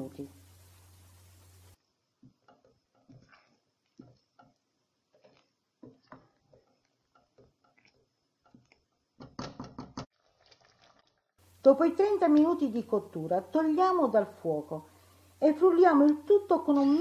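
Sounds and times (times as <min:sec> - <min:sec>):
jam pops and taps cooking: 0:00.6 - 0:11.4, 0:12.1 - 0:13.6, 0:15.2 - 0:17.0.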